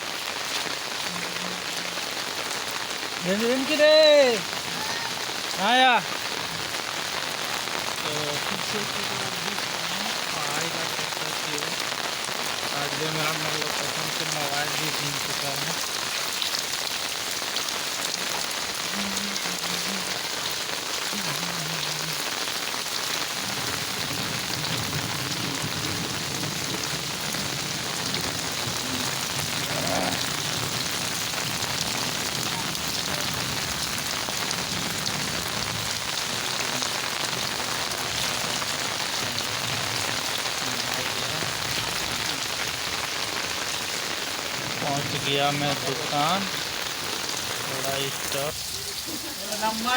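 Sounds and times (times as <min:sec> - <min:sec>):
heavy rain on ground: 0:00.0 - 0:49.9.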